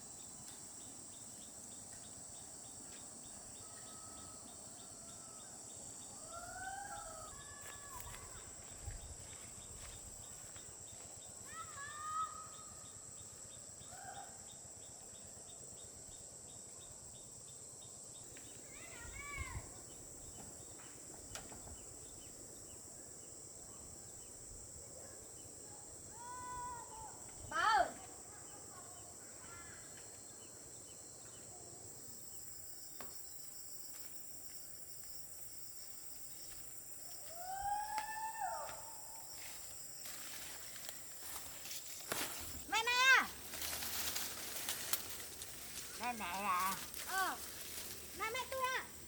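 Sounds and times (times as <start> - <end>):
crickets chirping: 0.0 - 49.0
insect drone: 0.0 - 49.0.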